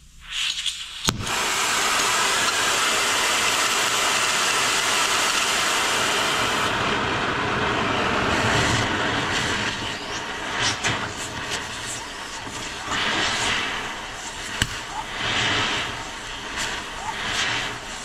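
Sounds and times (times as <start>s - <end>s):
gas torch hissing: 0.2s - 18.0s.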